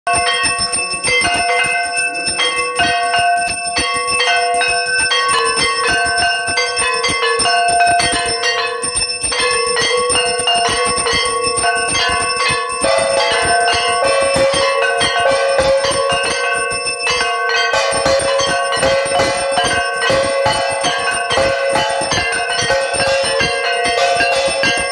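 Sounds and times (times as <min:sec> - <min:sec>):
temple bells ringing: 0:00.1 - 0:24.9.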